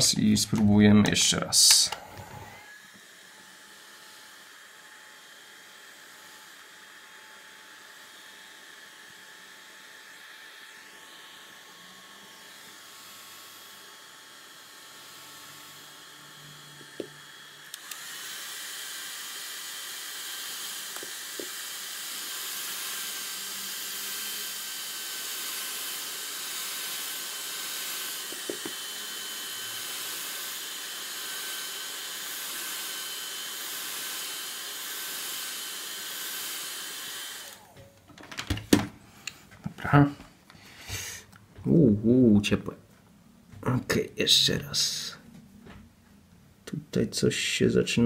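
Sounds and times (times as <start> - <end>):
hot-air blower hissing: 0.0 - 37.8, 40.1 - 41.4.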